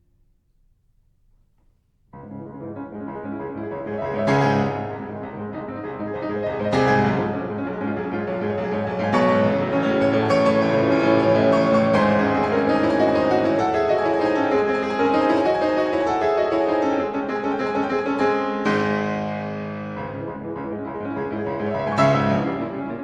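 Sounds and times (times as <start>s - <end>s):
piano chords ringing: 2.1s - 23.0s.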